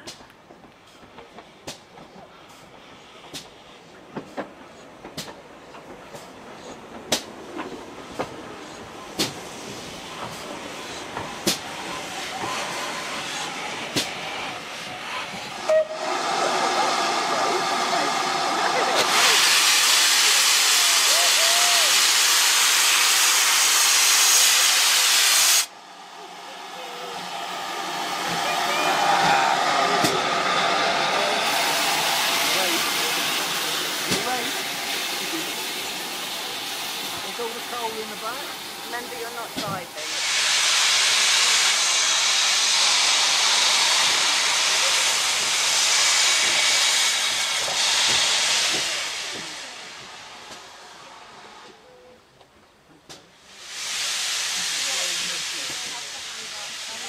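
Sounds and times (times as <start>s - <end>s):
steam locomotive running: 0.0s - 57.0s
steam hissing loudly: 7.1s - 52.0s, 53.3s - 57.0s.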